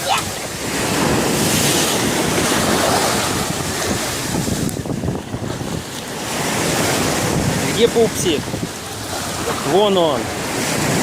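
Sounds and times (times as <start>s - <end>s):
sea surf washing ashore: 0.0s - 11.0s
wind buffeting microphone: 0.0s - 11.0s.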